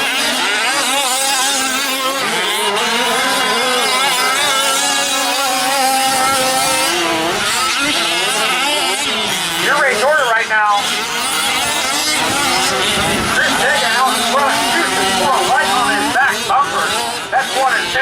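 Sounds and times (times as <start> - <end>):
small two-stroke engines revving: 0.0 - 18.0.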